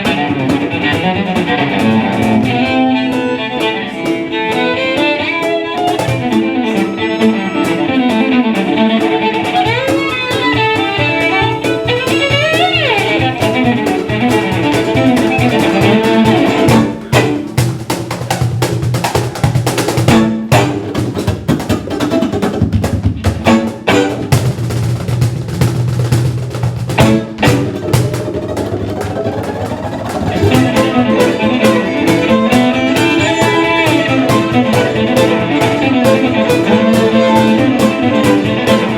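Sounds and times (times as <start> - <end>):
fiddle melody: 0.0 - 18.1, 19.7 - 21.2, 23.3 - 25.1, 26.8 - 38.9
drums: 0.0 - 38.9
folk band playing: 0.0 - 38.9.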